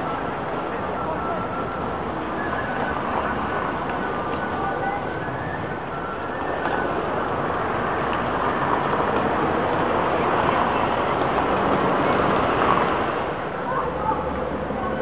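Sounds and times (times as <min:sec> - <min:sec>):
street traffic rush: 0:00.0 - 0:15.0.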